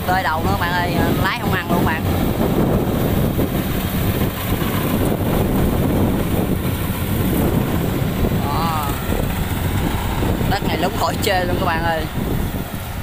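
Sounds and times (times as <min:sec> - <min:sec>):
harvester engine running: 0:00.0 - 0:13.0
wind buffeting microphone: 0:00.0 - 0:13.0.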